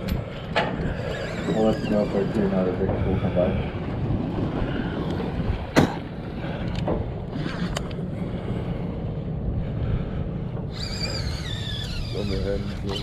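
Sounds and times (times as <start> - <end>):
boat engine low rumble: 0.0 - 13.0
wind on microphone: 0.0 - 13.0.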